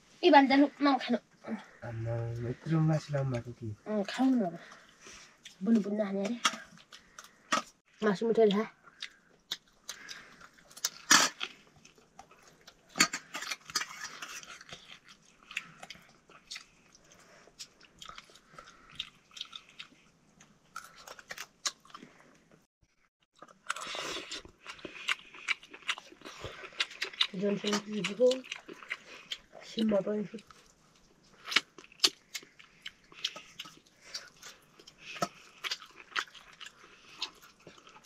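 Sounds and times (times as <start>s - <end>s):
person chewing meat: 4.7s - 7.8s, 8.8s - 22.4s, 23.3s - 38.0s.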